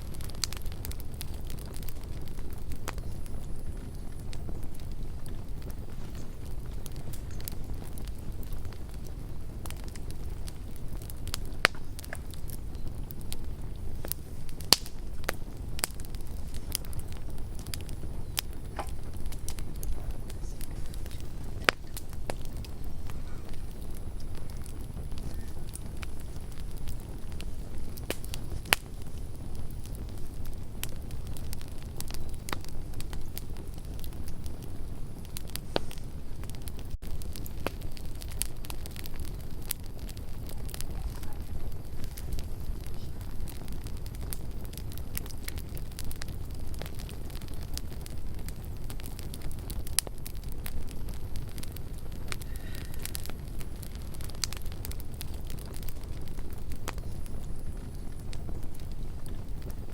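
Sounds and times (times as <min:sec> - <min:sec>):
campfire crackling: 0:00.0 - 0:59.9
low rush of flame: 0:00.0 - 0:59.9
low steady rumble: 0:00.0 - 0:59.9
sharp fire pops: 0:00.0 - 0:59.9.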